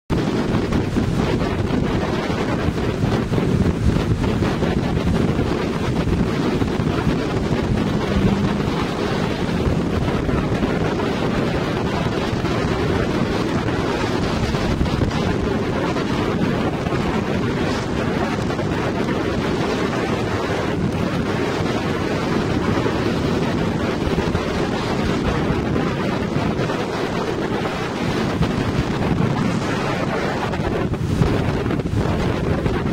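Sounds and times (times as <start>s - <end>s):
water spray from jet wake: 0.1s - 32.9s
wind buffeting microphone: 0.1s - 32.9s.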